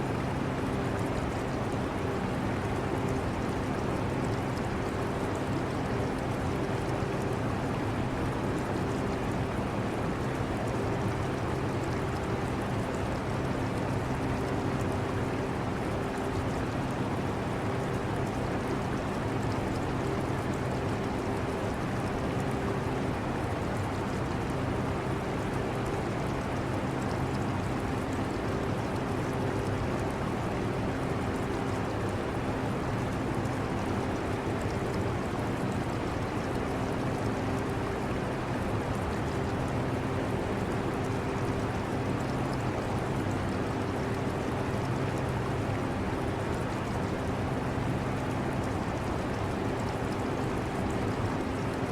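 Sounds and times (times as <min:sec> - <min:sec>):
aquarium water trickling: 0:00.1 - 0:51.9.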